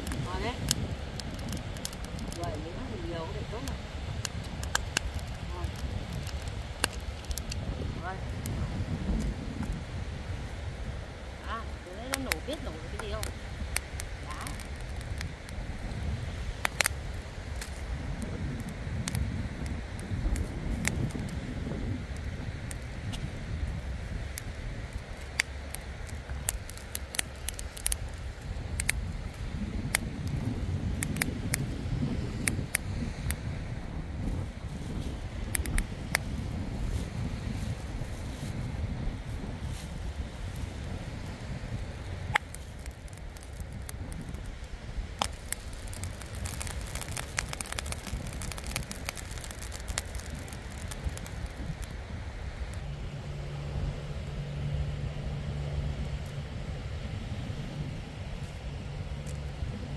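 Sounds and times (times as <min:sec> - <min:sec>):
sharp crackles and clicks: 0:00.0 - 0:56.4, 0:58.2 - 0:59.9
wind rumble on microphone: 0:00.0 - 0:59.9.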